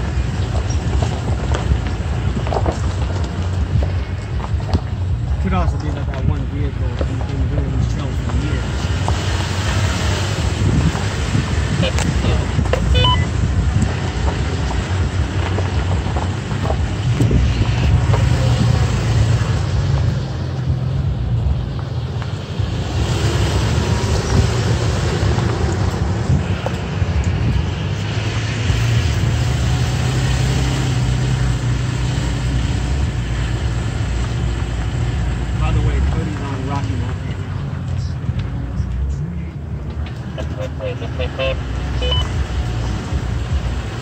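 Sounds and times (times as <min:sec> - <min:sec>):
low engine hum: 0:00.0 - 0:44.0
tyre and road noise: 0:00.0 - 0:44.0.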